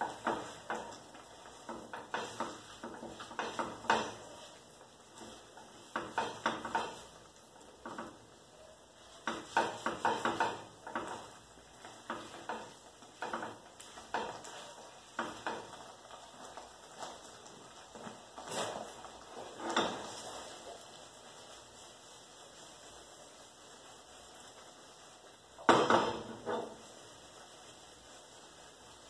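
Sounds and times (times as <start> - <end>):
utensils scraping in frying pan: 0.0 - 29.0.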